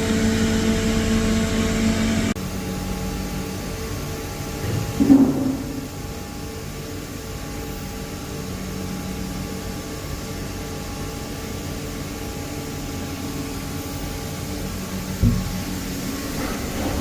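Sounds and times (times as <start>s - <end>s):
milling machine humming: 0.0s - 17.0s.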